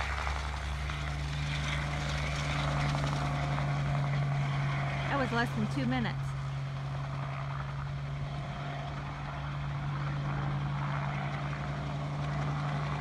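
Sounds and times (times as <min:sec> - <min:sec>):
helicopter droning: 0:00.0 - 0:13.0.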